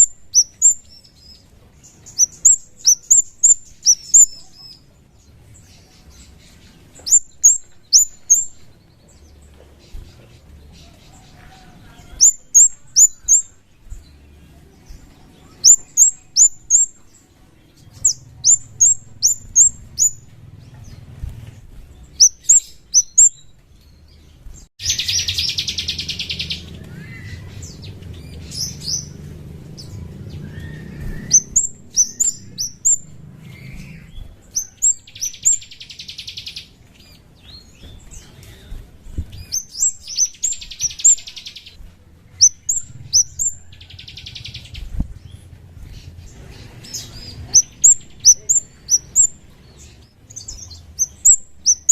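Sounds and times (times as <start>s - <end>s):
songbird chipping: 0.0s - 21.2s, 21.9s - 38.7s, 39.3s - 51.9s
buzzy bird trills: 0.0s - 23.6s, 24.4s - 38.2s, 39.1s - 51.9s.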